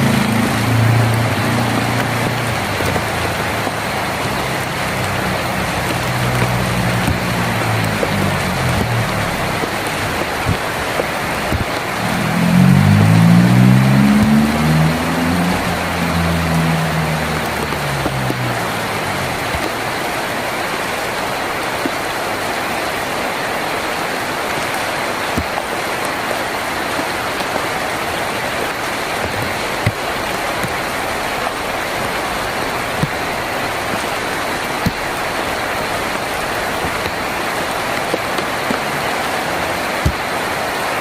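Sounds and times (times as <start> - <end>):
rain on a tin roof: 0.0 - 41.0.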